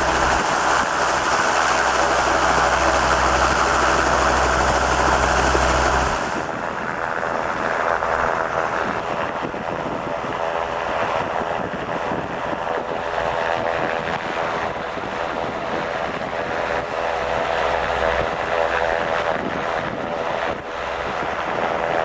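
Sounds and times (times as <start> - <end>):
helicopter engine and rotor drone: 0.0 - 22.0
wind noise on microphone: 0.0 - 22.0.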